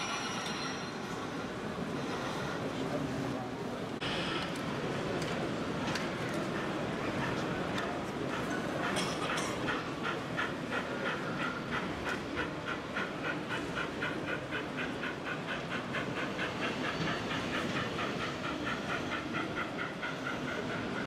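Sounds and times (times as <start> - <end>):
model steam locomotive chuffing: 0.0 - 21.0
train rumbling on track: 0.0 - 21.0.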